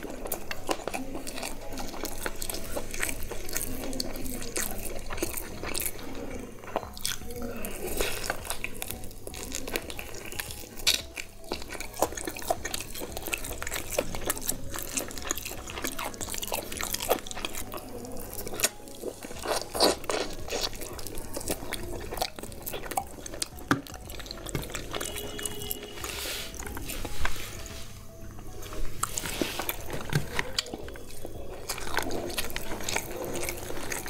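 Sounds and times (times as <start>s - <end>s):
person chewing chicken: 0.0s - 34.0s.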